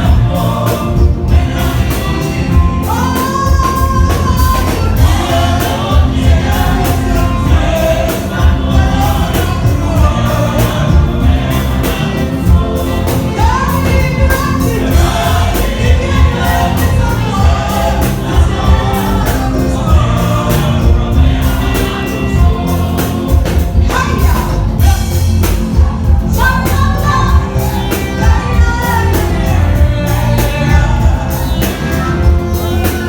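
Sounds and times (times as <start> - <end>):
congregation singing gospel music: 0.0 - 33.0
steady rhythmic beats: 0.0 - 33.0.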